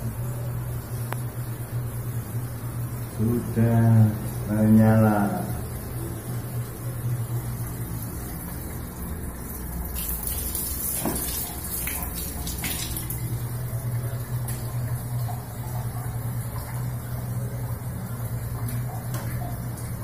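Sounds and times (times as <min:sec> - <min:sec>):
low steady hum: 0:00.0 - 0:20.0
water running through pipe: 0:00.0 - 0:20.0.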